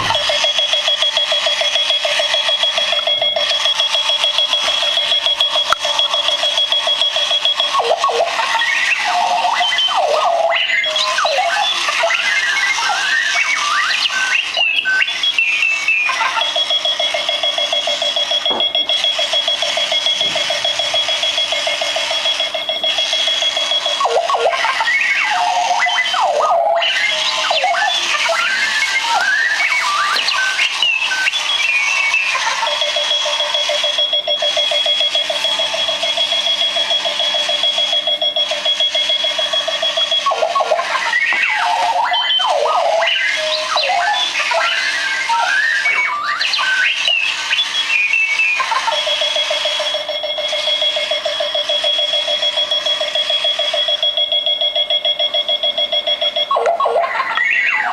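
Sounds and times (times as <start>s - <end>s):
warbling electronic alarm chirps: 0.0s - 57.9s.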